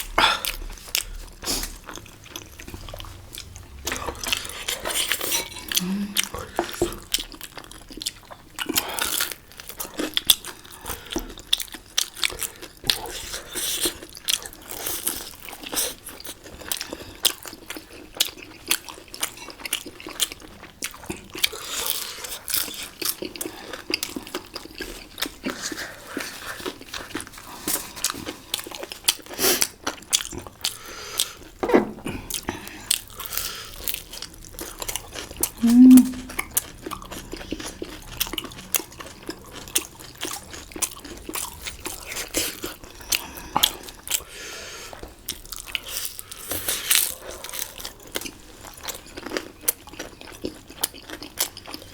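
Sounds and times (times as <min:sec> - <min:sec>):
chewing and biting dumplings: 0:00.0 - 0:51.9.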